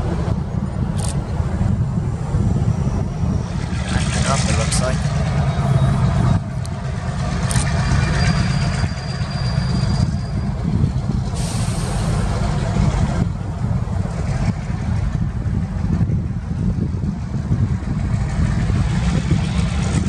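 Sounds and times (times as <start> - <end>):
diesel locomotives rumbling: 0.0 - 20.0
wind buffeting microphone: 0.0 - 20.0.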